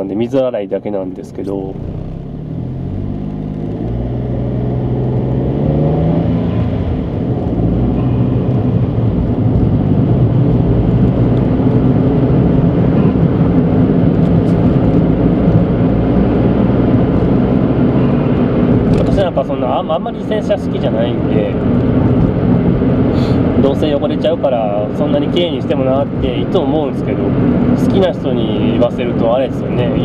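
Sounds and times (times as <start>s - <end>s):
road rumble: 0.0s - 30.0s
car engine accelerating: 0.8s - 30.0s.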